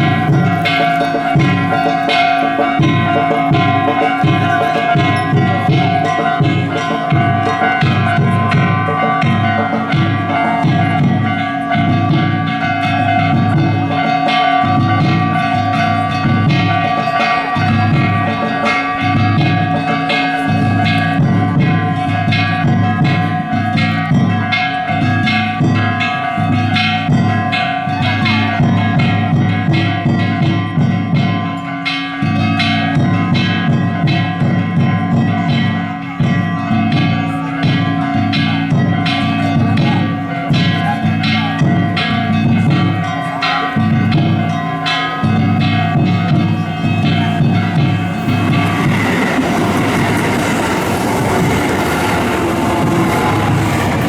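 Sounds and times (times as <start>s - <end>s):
big taiko drum beating: 0.0s - 31.5s, 32.3s - 43.1s, 45.2s - 54.0s
clanging hand gongs: 0.0s - 54.0s.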